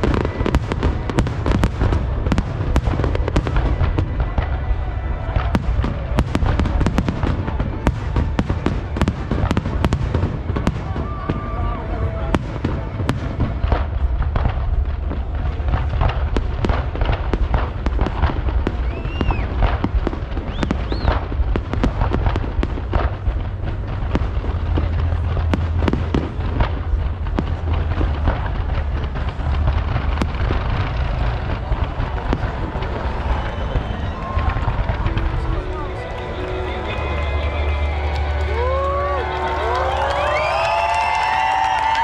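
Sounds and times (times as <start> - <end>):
deep rumbling boom: 0.0 - 36.7
fireworks bangs and crackles: 0.0 - 42.0.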